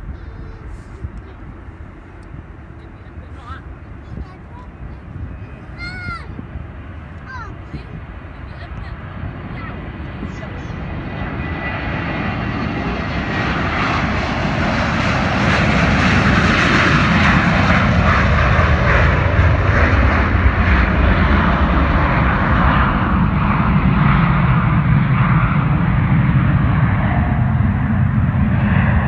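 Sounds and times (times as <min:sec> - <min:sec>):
jet airliner taking off: 0:00.0 - 0:29.0.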